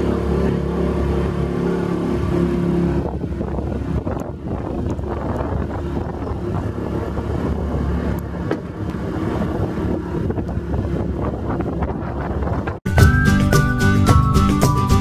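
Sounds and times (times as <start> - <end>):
motor boat engine running: 0.0 - 12.8
wind on microphone: 0.0 - 12.8.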